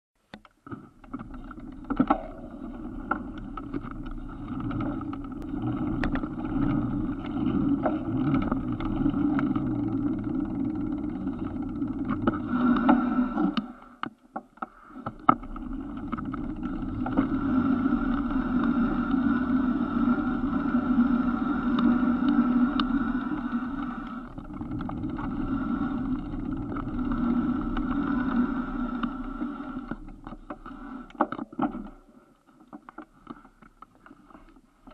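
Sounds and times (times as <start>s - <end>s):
steady motor drone: 1.1s - 14.0s, 15.0s - 31.3s.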